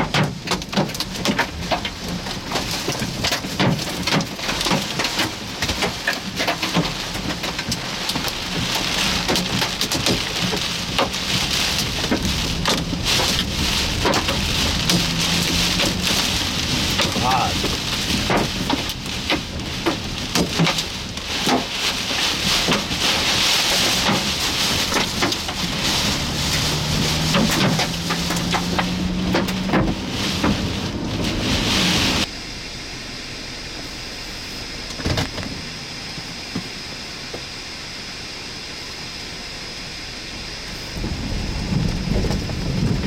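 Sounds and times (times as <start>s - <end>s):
heavy rain beating on a vehicle: 0.0s - 43.0s
steady storm noise: 0.0s - 43.0s.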